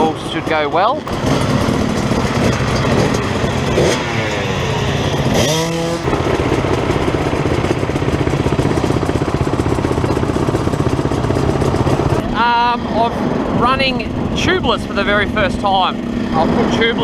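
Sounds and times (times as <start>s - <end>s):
dirt bike engine revving: 0.0s - 17.0s
dirt bike idling: 0.0s - 17.0s.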